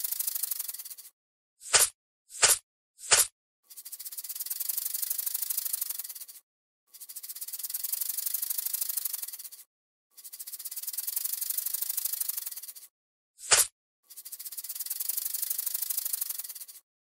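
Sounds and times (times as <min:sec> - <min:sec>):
snake rattling: 0:00.0 - 0:16.8.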